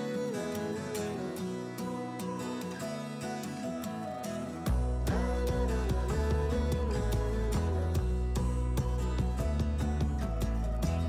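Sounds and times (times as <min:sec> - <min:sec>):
guitar instrumental with beat: 0:00.0 - 0:11.0.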